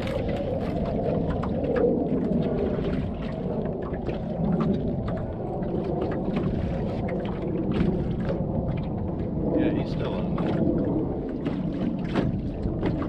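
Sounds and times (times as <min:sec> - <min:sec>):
steady low rumble: 0:00.0 - 0:13.0
water slapping against hull: 0:00.0 - 0:13.0.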